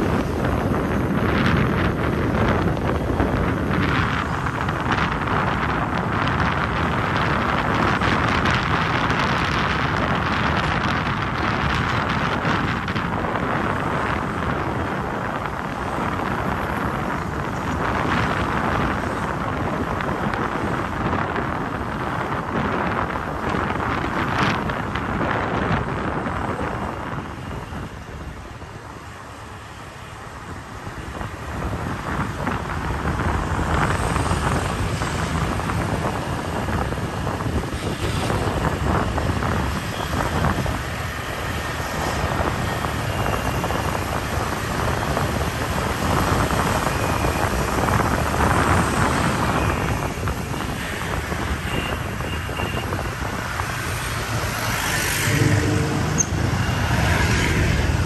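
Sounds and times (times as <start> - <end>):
passing traffic: 0.0 - 58.0
road noise: 0.0 - 58.0
wind rushing over microphone: 0.0 - 58.0.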